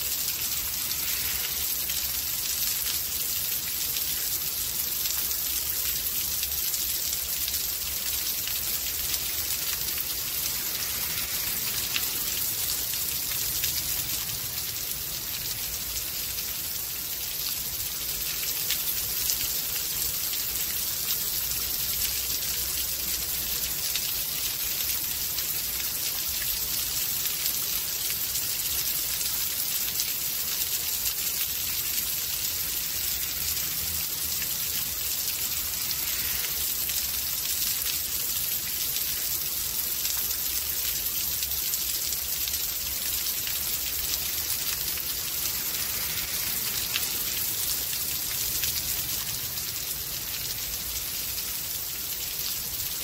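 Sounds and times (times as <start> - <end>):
rain hissing: 0.0 - 53.0.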